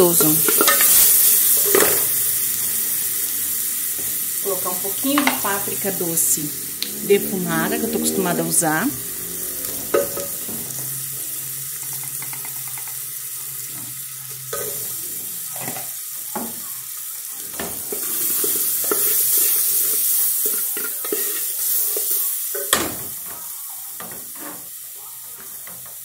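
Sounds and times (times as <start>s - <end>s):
spices sizzling in hot fat: 0.0s - 26.0s.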